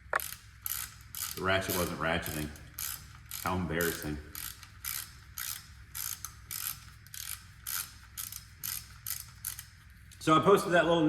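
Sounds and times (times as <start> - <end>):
ratchet wrench clicking: 0.0 - 10.2.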